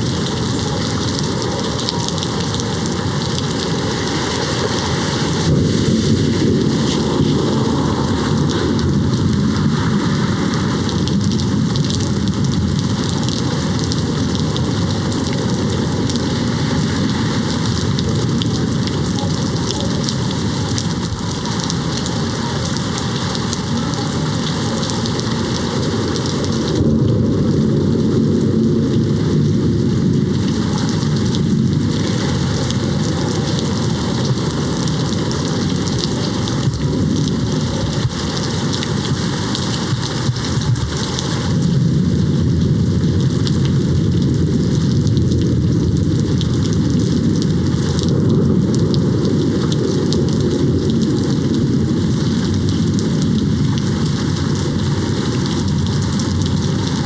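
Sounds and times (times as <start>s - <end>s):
distant thunder rumbling: 0.0s - 57.0s
rain hitting a window: 0.0s - 57.0s.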